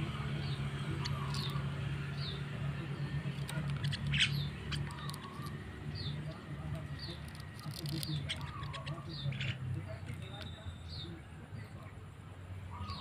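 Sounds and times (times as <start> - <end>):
myna chirping: 0.0 - 11.3, 12.6 - 13.0.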